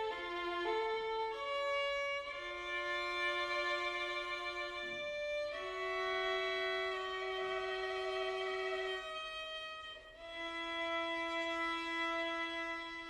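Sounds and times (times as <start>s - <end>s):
slow violin melody: 0.0s - 13.0s.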